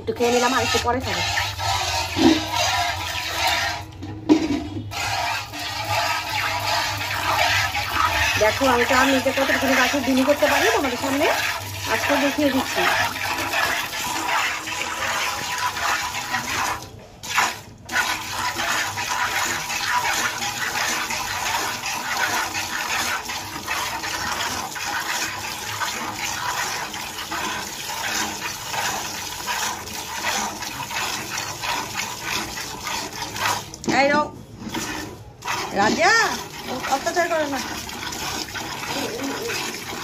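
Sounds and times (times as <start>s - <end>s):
milk squirting into pail: 0.0s - 4.0s, 4.8s - 33.9s, 34.5s - 40.0s.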